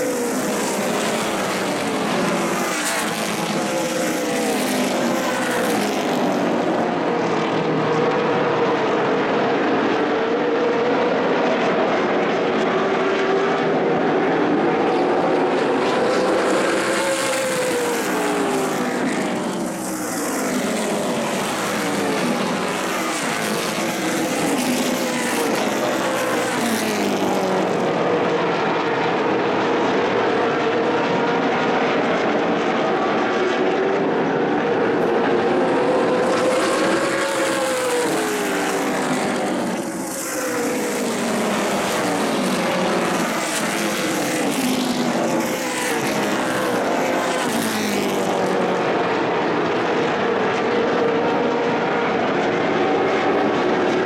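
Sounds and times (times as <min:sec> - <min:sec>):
race car engines running hard: 0:00.0 - 0:54.0.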